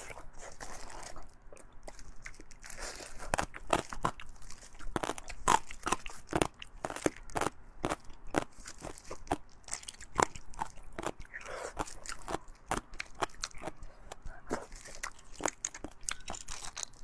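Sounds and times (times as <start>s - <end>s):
mouth chewing wet smacks: 0.0s - 17.0s.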